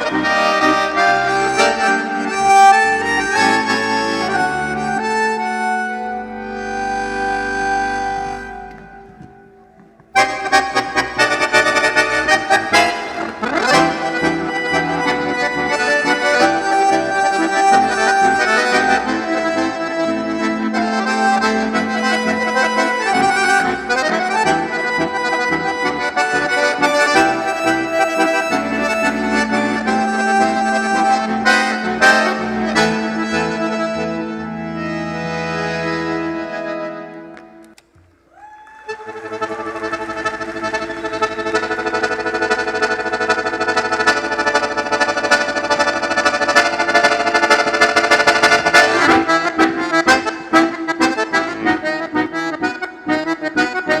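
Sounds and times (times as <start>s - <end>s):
lively accordion music: 0.0s - 37.8s, 38.9s - 54.0s.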